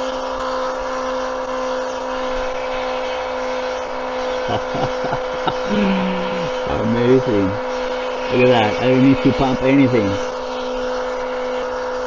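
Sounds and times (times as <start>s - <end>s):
electric pump motor whining: 0.0s - 12.0s.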